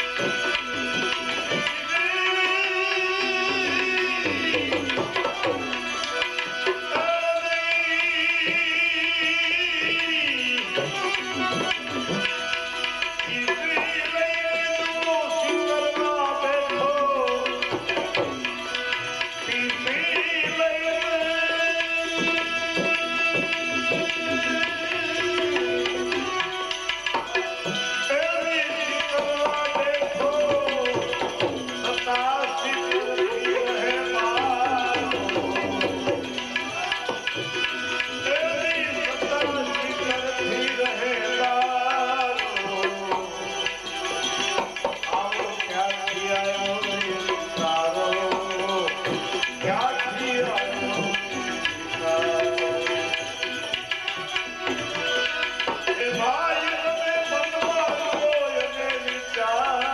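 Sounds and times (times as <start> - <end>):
tabla drumming: 0.0 - 59.9.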